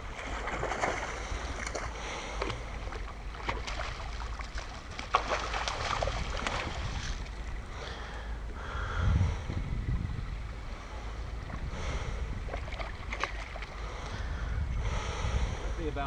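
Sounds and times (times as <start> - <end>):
water splashing beside a boat: 0.0 - 8.9, 10.5 - 14.5
steady low rumble: 0.0 - 16.0.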